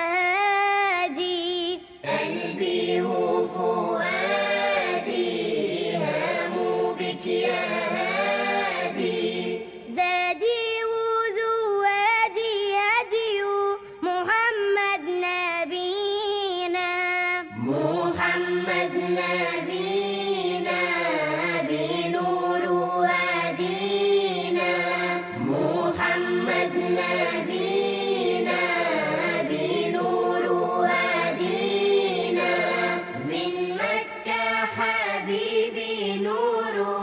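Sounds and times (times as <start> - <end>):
unaccompanied devotional singing: 0.0 - 37.0.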